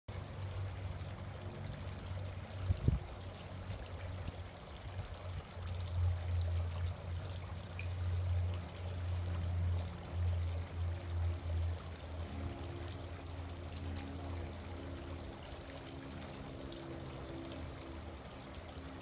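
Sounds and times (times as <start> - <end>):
water running and trickling: 0.1 - 19.0.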